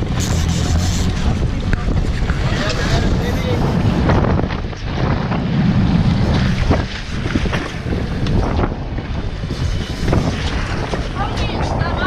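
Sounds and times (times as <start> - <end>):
boat motor rumble: 0.0 - 12.0
water against hull: 0.0 - 12.0
wind buffeting microphone: 0.0 - 12.0.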